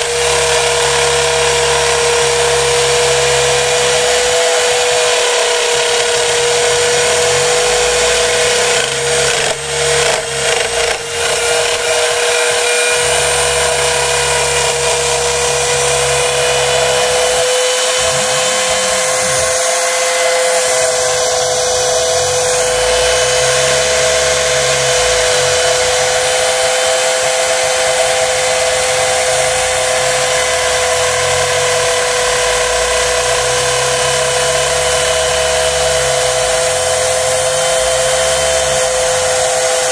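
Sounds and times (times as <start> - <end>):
low machine drone: 0.0 - 39.9
router spindle whining: 0.0 - 39.9.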